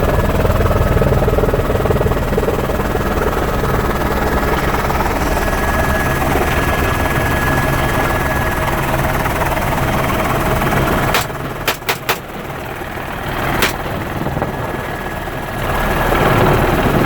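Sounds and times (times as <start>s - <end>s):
helicopter rotor and engine noise: 0.0s - 17.0s.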